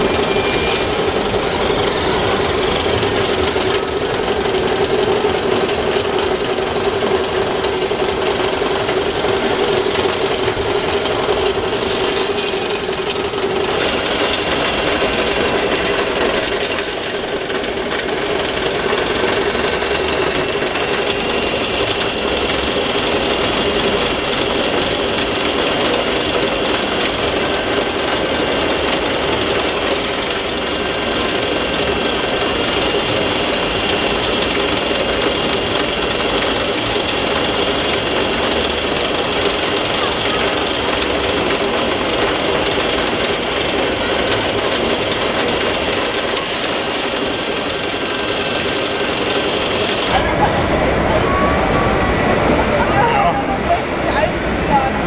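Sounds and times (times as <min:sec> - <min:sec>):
toy excavator hydraulic whine: 0:00.0 - 0:50.3.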